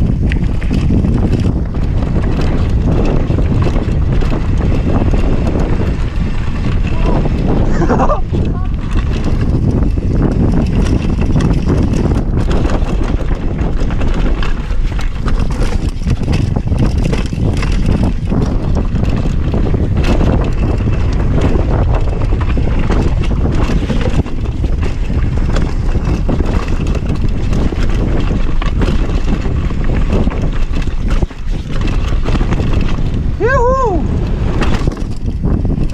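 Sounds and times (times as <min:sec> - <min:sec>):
bike rattling over bumps: 0:00.0 - 0:35.9
tyres rumbling on gravel: 0:00.0 - 0:35.9
wind buffeting microphone: 0:00.0 - 0:35.9.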